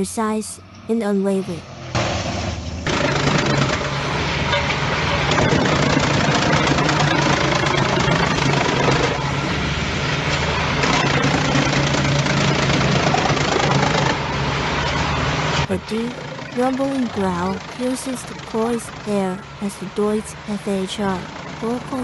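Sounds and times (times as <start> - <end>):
chipper engine hum: 0.0 - 22.0.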